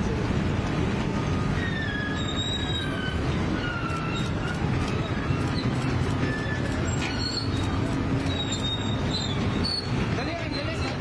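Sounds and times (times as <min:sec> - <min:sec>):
diesel engines rumbling: 0:00.0 - 0:11.0
crawler tracks squealing: 0:01.0 - 0:11.0.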